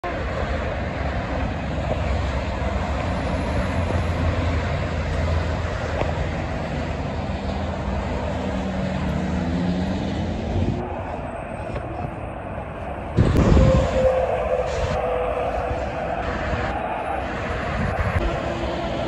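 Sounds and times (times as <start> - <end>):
highway traffic noise: 0.0 - 19.0.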